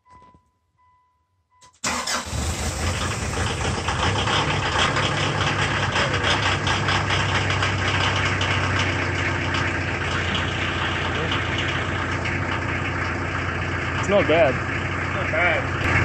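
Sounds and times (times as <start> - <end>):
diesel engine starting and running: 1.6 - 16.0.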